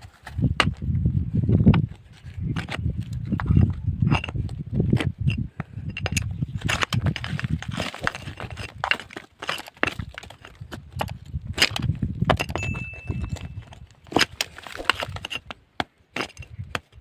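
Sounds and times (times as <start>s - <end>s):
rock striking rock: 0.0s - 17.0s.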